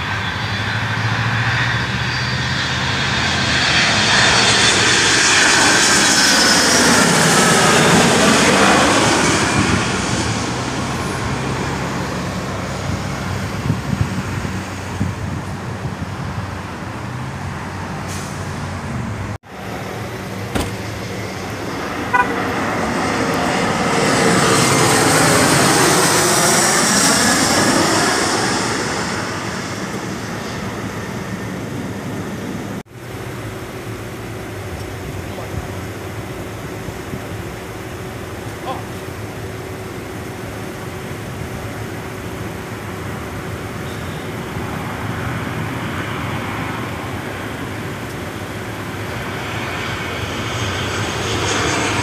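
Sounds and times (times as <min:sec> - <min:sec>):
jet airliner passing overhead: 0:00.0 - 0:52.0.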